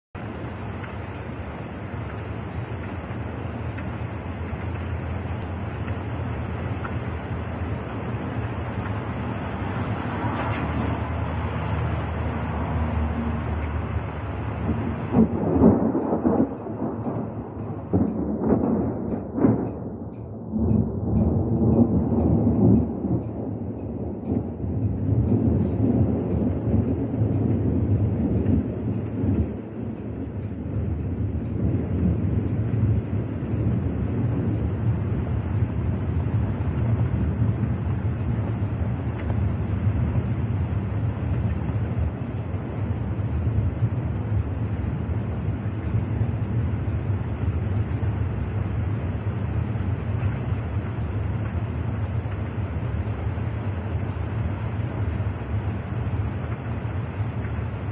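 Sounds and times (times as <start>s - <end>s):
rain: 0.0s - 57.9s
wind: 0.0s - 57.9s
rolling thunder: 6.3s - 57.9s.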